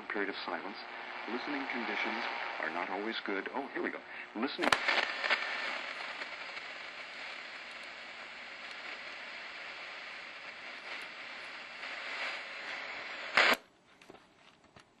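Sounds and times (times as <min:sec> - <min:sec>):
loud crackle burst: 0:00.0 - 0:13.6
radio static hiss: 0:00.0 - 0:13.7.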